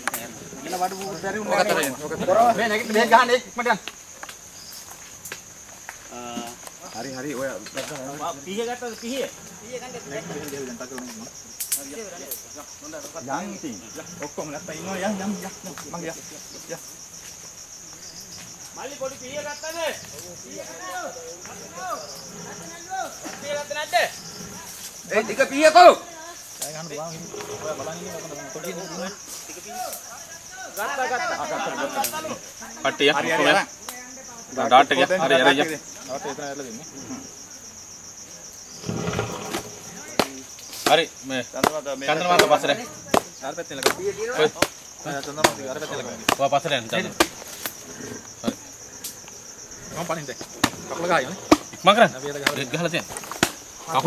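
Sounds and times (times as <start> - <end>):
insect chorus trilling: 0.0 - 54.0.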